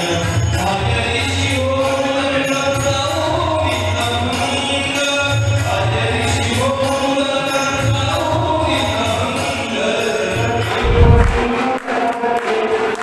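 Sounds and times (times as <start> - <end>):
devotional chant with rhythmic music: 0.0 - 13.0.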